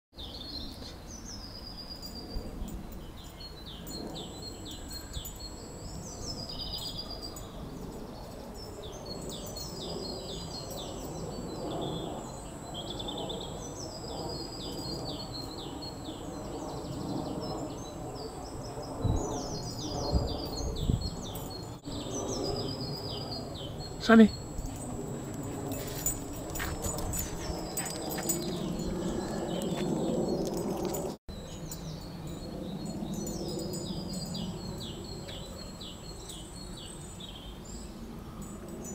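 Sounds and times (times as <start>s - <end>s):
songbirds singing: 0.2s - 38.9s.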